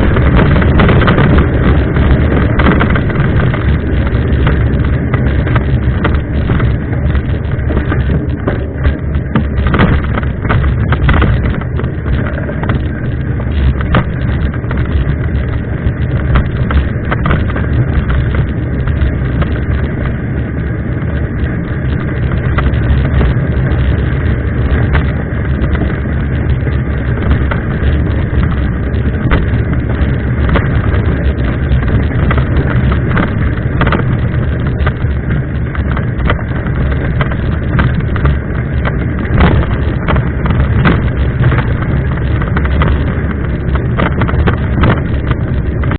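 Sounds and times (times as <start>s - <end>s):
mountain bike rattling: 0.0s - 45.9s
wind rushing over microphone: 0.0s - 45.9s.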